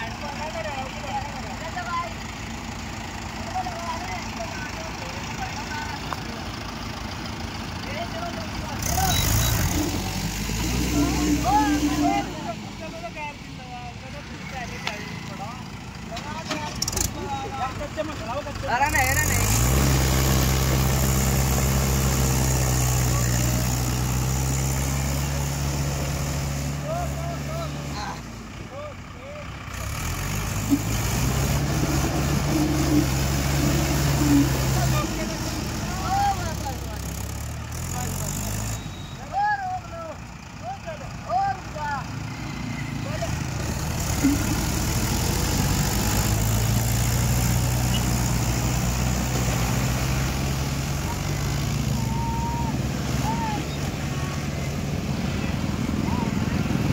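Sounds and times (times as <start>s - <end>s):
tractor diesel engines running: 0.0s - 56.9s.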